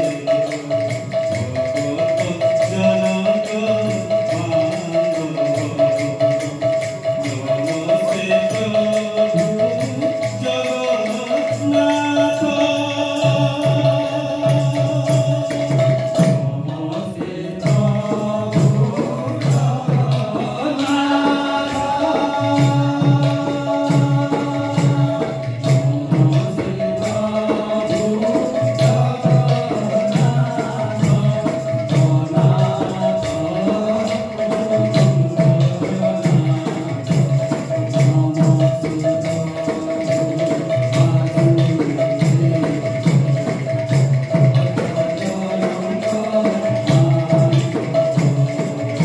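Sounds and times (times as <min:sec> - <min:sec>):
devotional singing: 0:00.0 - 0:43.2, 0:44.4 - 0:49.0
drum beat: 0:00.0 - 0:49.0
jingling hand percussion: 0:00.0 - 0:49.0.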